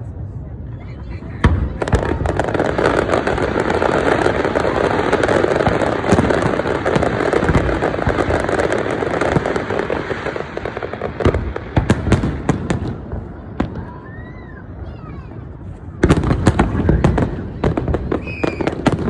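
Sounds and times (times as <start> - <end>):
fireworks crackling: 1.0 - 19.0
fireworks booms: 1.1 - 19.0.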